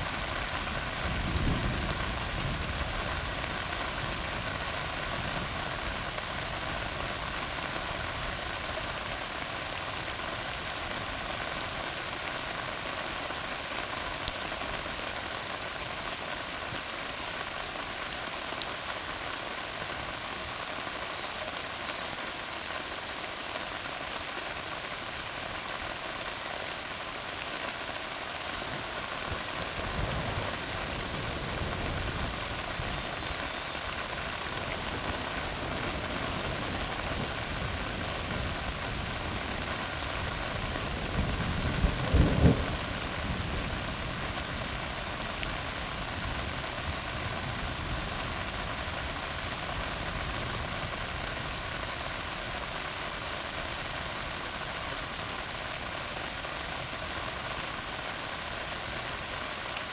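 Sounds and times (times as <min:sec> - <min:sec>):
rain falling on road: 0:00.0 - 0:59.9.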